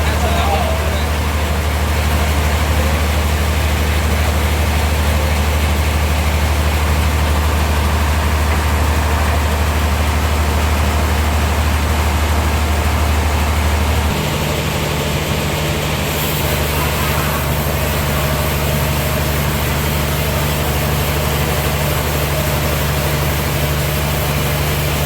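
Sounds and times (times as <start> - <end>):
deep engine hum: 0.0 - 25.0.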